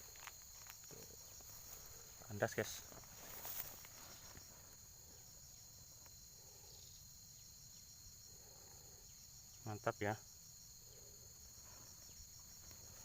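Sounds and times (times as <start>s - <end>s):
insect chorus with pulsing trill: 0.0s - 13.0s.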